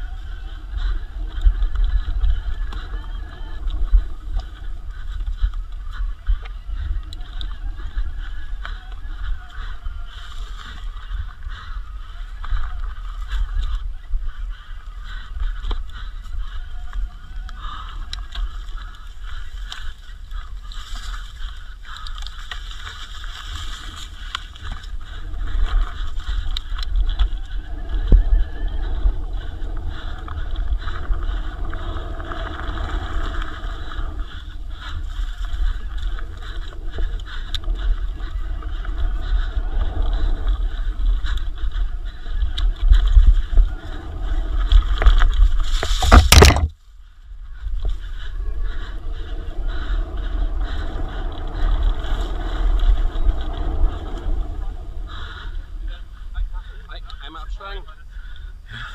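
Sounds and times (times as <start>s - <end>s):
bike rumble and rattle: 0.0s - 57.6s
wind buffeting microphone: 0.0s - 58.9s.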